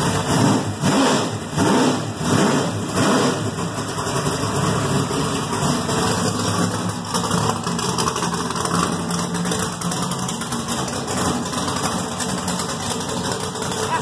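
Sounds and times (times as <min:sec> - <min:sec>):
race car engine idling: 0:00.0 - 0:14.0.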